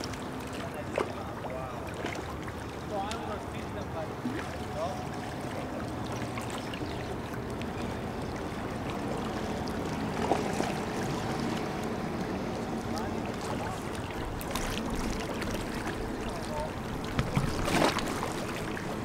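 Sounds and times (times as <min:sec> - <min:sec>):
water washing: 0:01.8 - 0:19.0.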